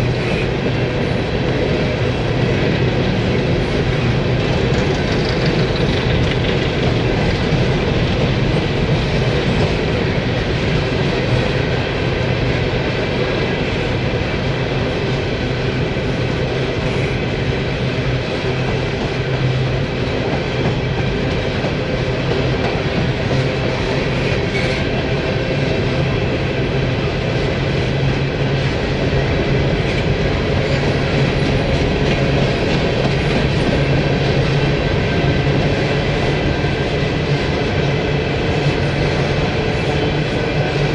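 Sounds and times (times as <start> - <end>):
freight train wheels rumbling: 0.0 - 40.9
wheels clickety-clack: 0.0 - 40.9.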